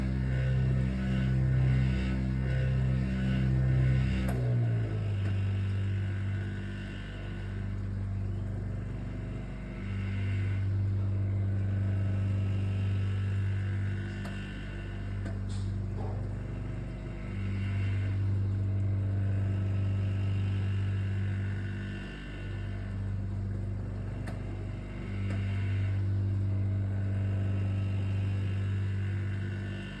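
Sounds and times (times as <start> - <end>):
dishwasher pump humming: 0.0 - 30.0.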